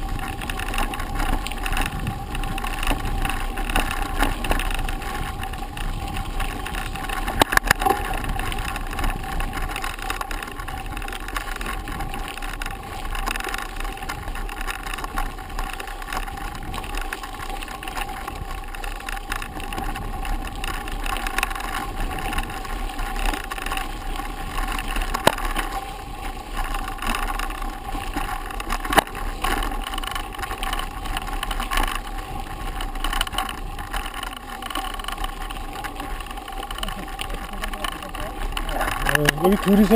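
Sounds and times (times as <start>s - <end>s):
bike knocking over bumps: 0.0s - 39.9s
mountain bike rolling and rattling: 0.0s - 39.9s.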